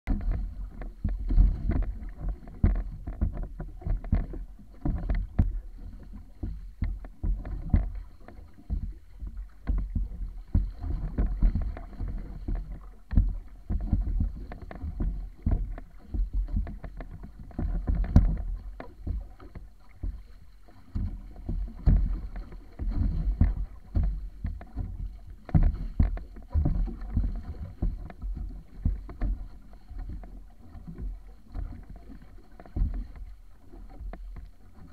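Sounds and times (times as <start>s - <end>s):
water splashing along wooden hull: 0.1s - 34.9s.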